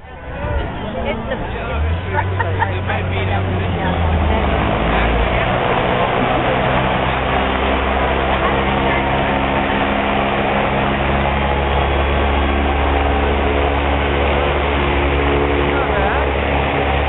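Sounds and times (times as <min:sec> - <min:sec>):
truck engine running slowly: 0:00.0 - 0:17.0.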